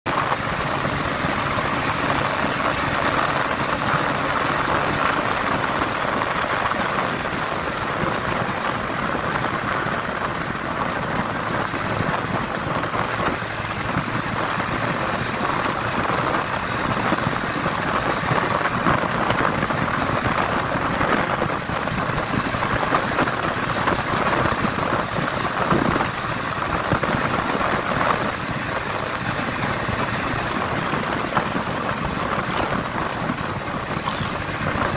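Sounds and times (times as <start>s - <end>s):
wind and road noise: 0.0s - 34.9s
motorcycle engine running: 0.1s - 34.9s.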